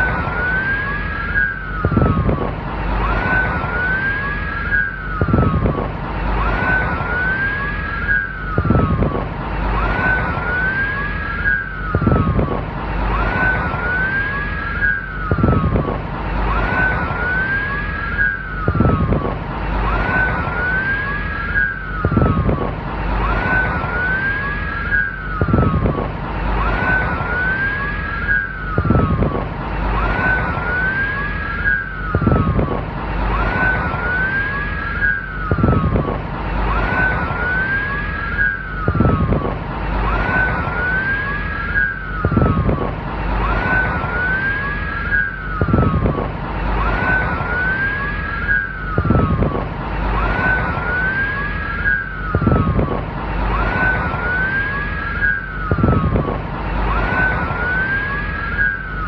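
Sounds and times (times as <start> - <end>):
police siren wailing: 0.0 - 59.0.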